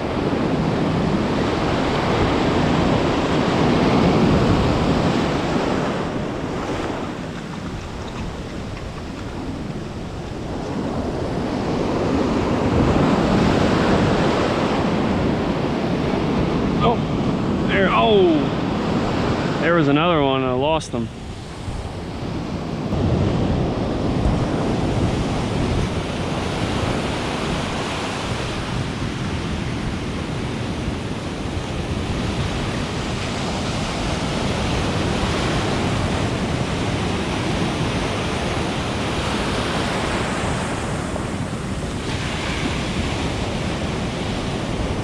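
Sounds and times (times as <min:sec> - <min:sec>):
ocean surf washing onto beach: 0:00.0 - 0:45.0
wind buffeting microphone: 0:00.0 - 0:45.0.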